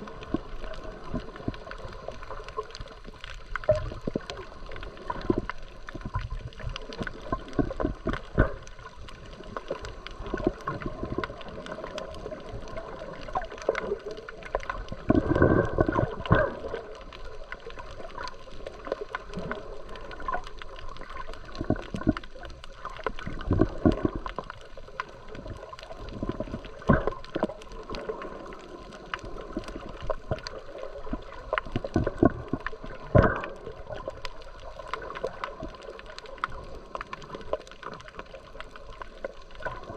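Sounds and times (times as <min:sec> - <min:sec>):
bubbling gush: 0:00.0 - 0:39.9
water gurgling and sloshing: 0:00.0 - 0:39.9.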